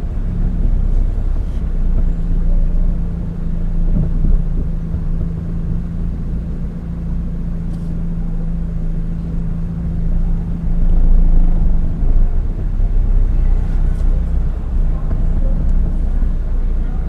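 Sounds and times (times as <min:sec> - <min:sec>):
car engine and road noise: 0:00.0 - 0:17.0
hum: 0:00.0 - 0:17.0.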